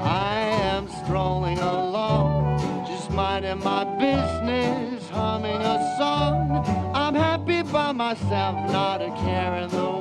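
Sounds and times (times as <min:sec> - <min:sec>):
country song with singing: 0:00.0 - 0:10.0.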